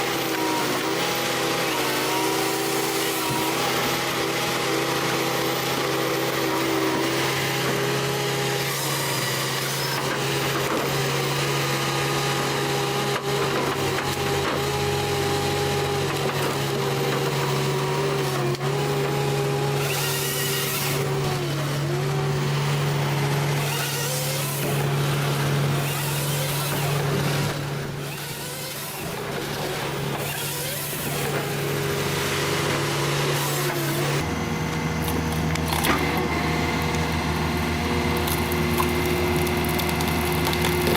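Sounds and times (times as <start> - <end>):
wood cutting noise: 0.0 - 40.9.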